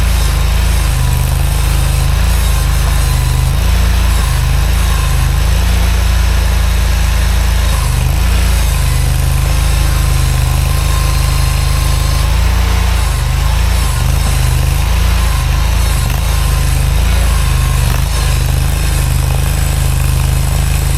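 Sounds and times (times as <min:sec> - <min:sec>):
skid steer engine droning: 0:00.0 - 0:20.9.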